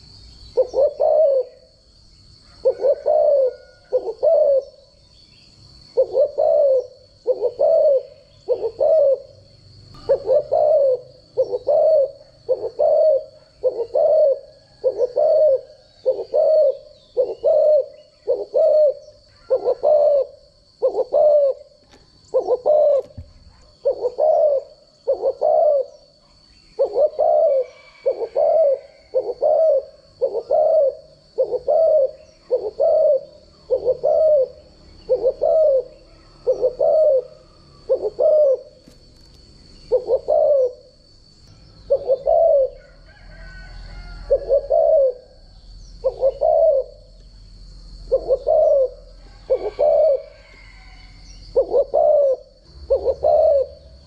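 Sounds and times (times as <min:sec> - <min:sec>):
dove cooing: 0:00.0 - 0:01.8, 0:02.4 - 0:05.0, 0:05.7 - 0:41.1, 0:41.8 - 0:54.0.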